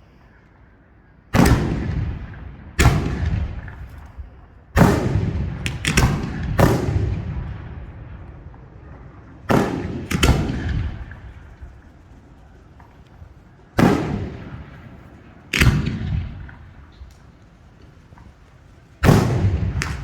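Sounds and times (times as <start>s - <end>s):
loud firework bangs echoing: 1.4s - 20.0s.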